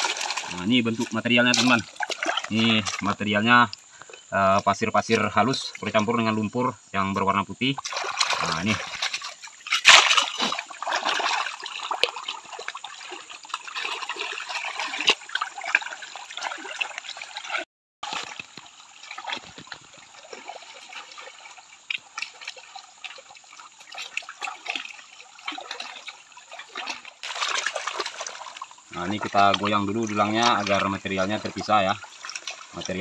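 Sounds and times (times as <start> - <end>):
water sloshing and splashing in a pan: 0.0 - 4.3, 7.6 - 33.0.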